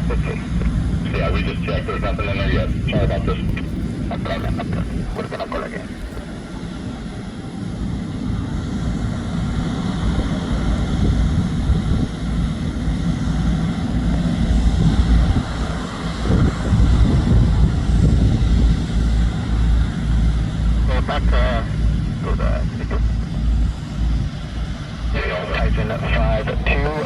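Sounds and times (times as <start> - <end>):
faint jet engine whine: 0.0 - 27.0
jet engines rumbling: 0.0 - 27.0
wind buffeting microphone: 0.2 - 20.5, 23.4 - 27.0.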